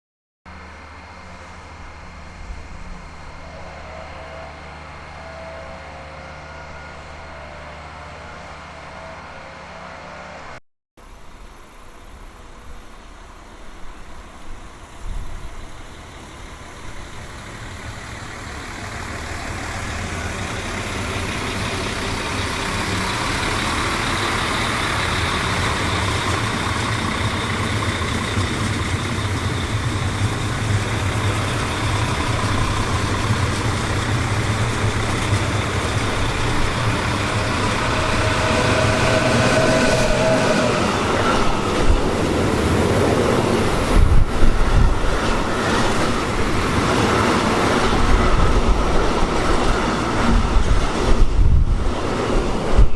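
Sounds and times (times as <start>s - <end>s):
train running rumble: 0.5s - 52.9s
train whine: 0.5s - 52.9s.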